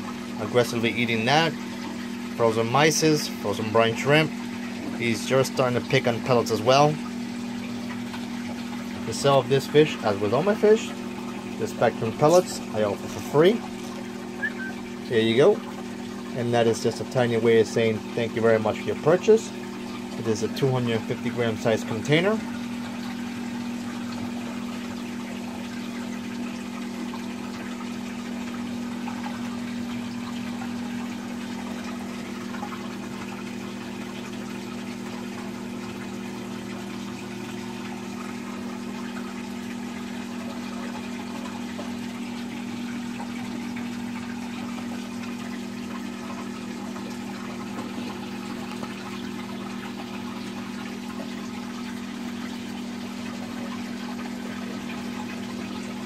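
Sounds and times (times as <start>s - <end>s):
aquarium pump electric hum: 0.0s - 56.0s
circulating water trickling: 0.0s - 56.0s.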